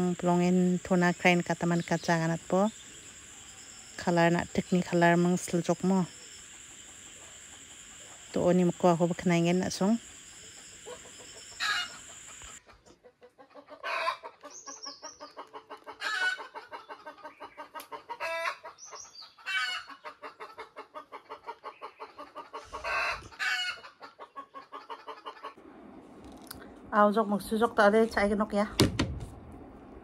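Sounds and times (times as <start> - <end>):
chickens clucking: 0.2 - 25.6.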